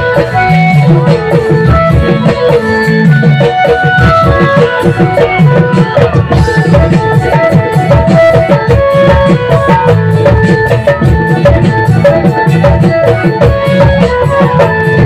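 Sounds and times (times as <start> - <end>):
hand drum and percussion rhythm: 0.0 - 15.0
keyboard and guitar melody: 0.0 - 15.0.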